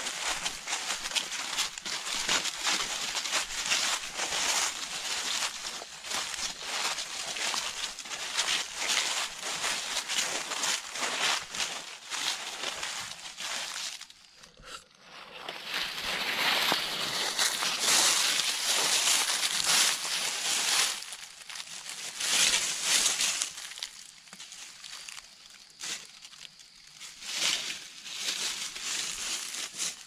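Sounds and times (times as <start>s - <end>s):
footsteps crunching dry leaves: 0.0s - 30.0s.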